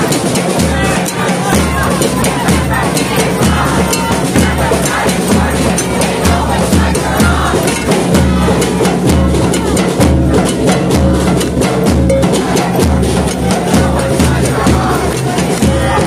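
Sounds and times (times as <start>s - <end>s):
bass drum beat: 0.0s - 16.0s.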